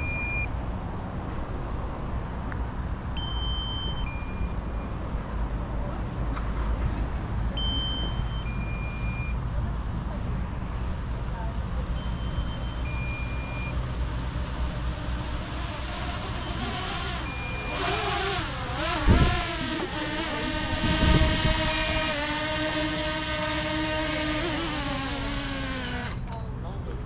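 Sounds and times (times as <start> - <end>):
vehicle engine rumbling: 4.0 - 27.0.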